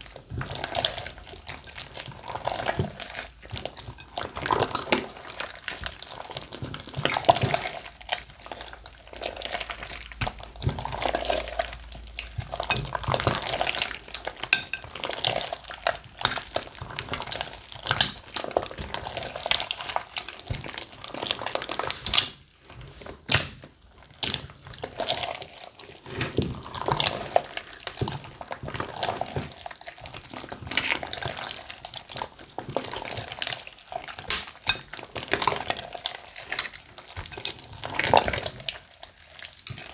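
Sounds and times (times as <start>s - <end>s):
slime squelching: 0.0s - 39.9s.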